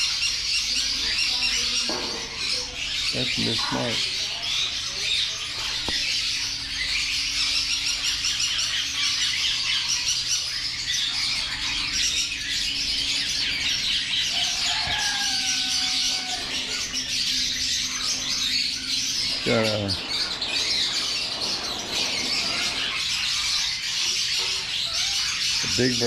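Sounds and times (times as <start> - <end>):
caged birds chattering and squawking: 0.0 - 26.0.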